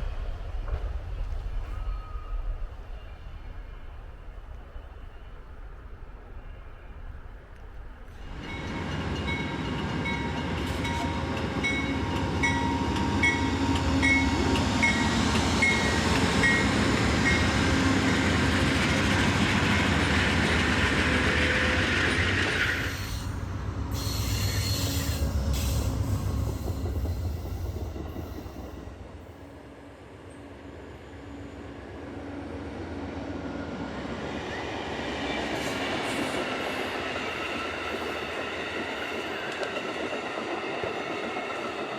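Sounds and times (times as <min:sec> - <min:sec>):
train engine rumble: 0:00.0 - 0:41.9
train wheels on rails: 0:00.0 - 0:41.9.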